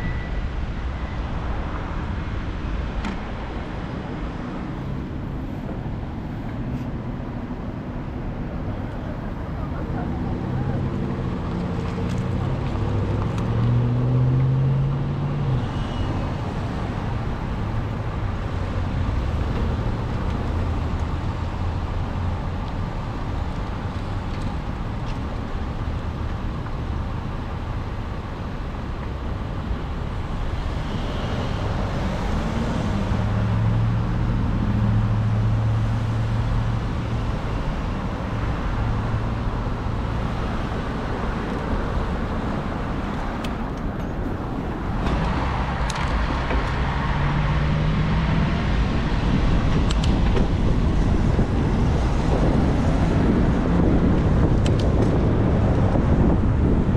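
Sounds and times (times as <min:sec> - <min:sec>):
road noise: 0:00.0 - 0:56.9
vehicle engine hum passing: 0:01.1 - 0:56.9.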